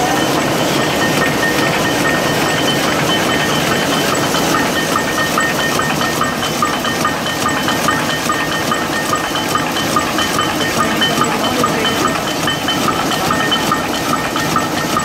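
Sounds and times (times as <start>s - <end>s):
loom mechanical clatter: 0.0s - 15.0s
rapid metallic clicks: 0.0s - 15.0s.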